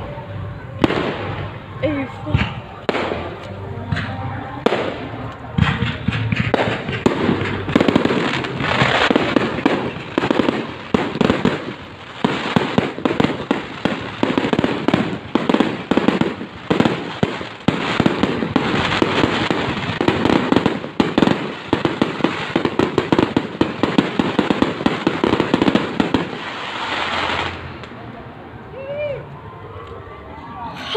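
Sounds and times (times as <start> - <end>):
fireworks bangs: 0.8 - 28.0
fireworks crackling bursts: 0.8 - 28.4.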